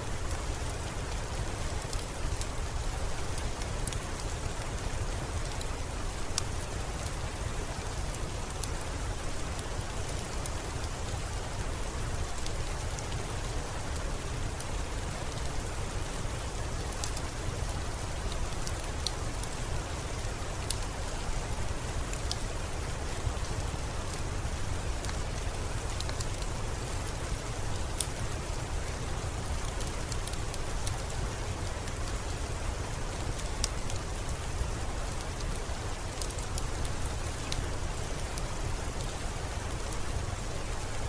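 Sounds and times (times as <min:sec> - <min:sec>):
steady rainfall hiss: 0:00.0 - 0:41.0
raindrop ticks: 0:00.2 - 0:15.6, 0:16.3 - 0:41.0.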